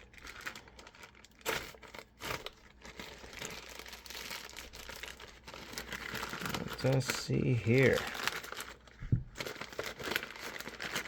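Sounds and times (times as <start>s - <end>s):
package tearing: 0.0s - 11.0s
packaging crinkling: 0.0s - 11.0s.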